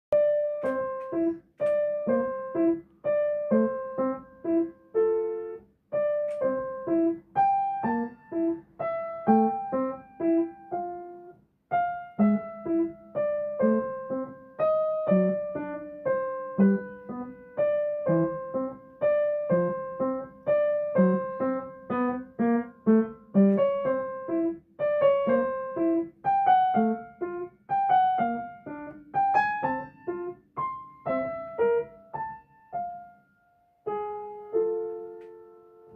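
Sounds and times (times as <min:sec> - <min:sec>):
gentle piano melody: 0:00.1 - 0:35.9.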